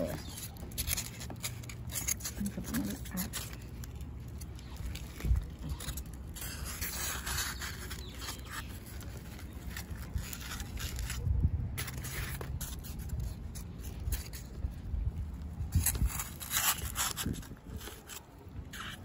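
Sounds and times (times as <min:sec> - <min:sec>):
styrofoam scraping against roots: 0:00.0 - 0:19.0.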